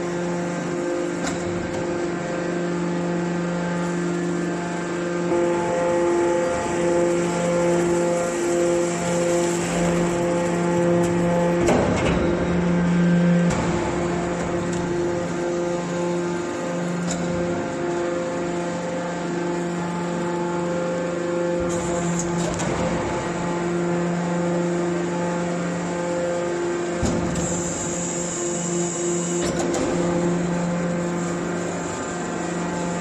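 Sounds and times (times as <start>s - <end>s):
hydraulic power unit humming: 0.0s - 33.0s.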